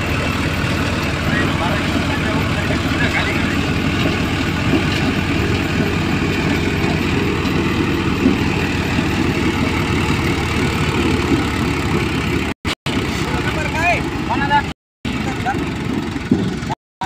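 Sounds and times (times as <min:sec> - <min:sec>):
tractor engine and thresher din: 0:00.0 - 0:16.8.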